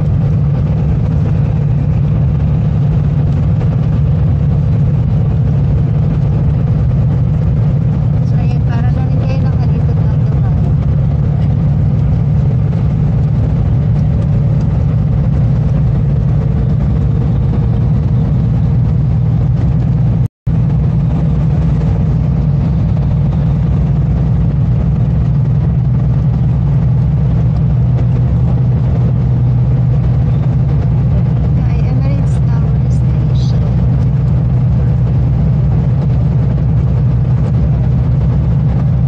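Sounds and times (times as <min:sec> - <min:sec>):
vehicle engine and road noise: 0:00.0 - 0:39.0.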